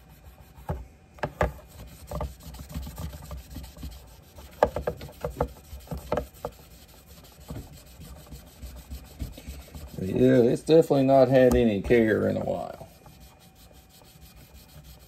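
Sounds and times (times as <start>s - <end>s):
wadding rubbing on brass: 1.6s - 15.0s.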